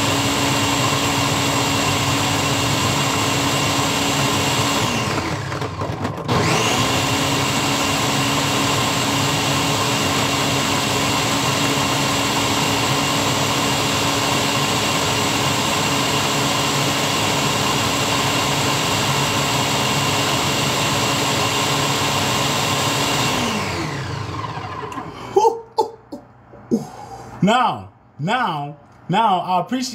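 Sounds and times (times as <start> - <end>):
blender running at high speed: 0.0 - 25.1.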